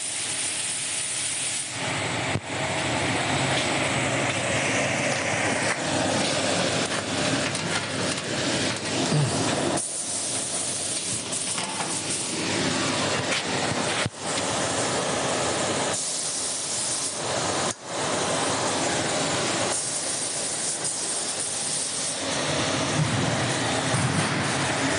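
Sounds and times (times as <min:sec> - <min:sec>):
industrial machinery hum and hiss: 0:00.0 - 0:24.9.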